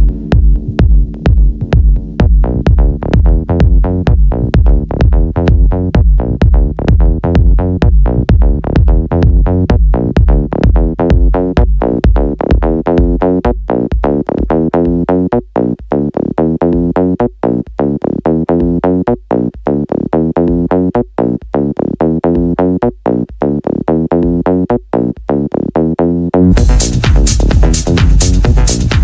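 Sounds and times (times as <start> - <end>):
electronic dance music: 0.0 - 25.6, 26.4 - 29.0.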